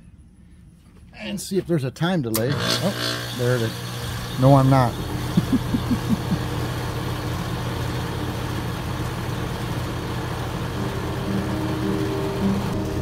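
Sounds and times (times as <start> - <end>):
heat pump humming: 2.4 - 13.0.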